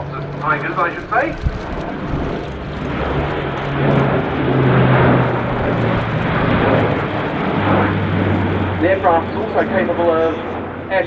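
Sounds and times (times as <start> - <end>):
turboprop aircraft humming overhead: 0.0 - 11.0.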